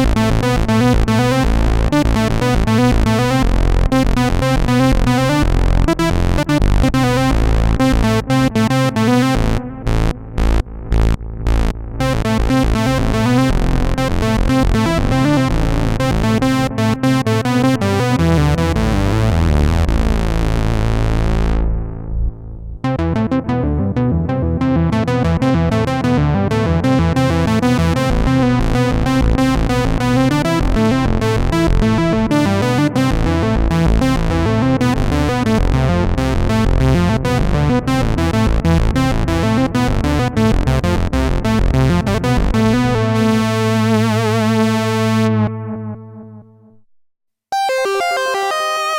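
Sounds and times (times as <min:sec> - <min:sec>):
synthesizer brass-like chords: 0:00.0 - 0:46.6, 0:47.5 - 0:48.9.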